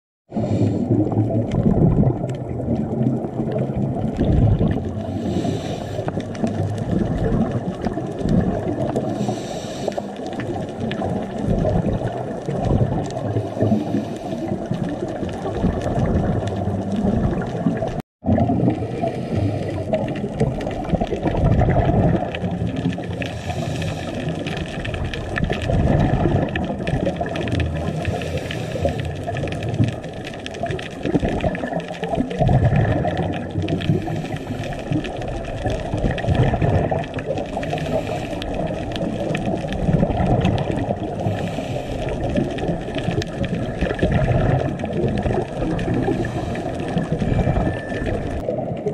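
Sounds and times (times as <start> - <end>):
muffled underwater rumble: 0.3 - 48.9
scuba exhaust bubbles hissing: 0.3 - 48.9.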